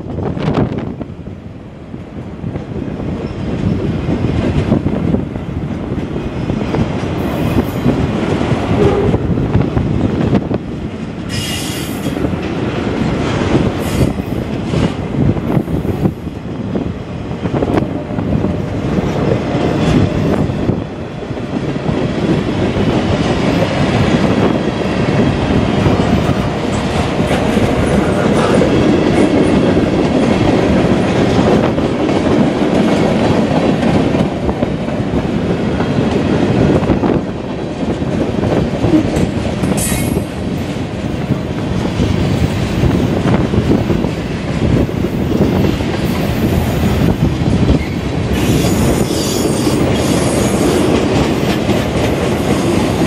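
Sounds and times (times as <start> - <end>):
train wheels rumbling and clattering: 0.0 - 53.0.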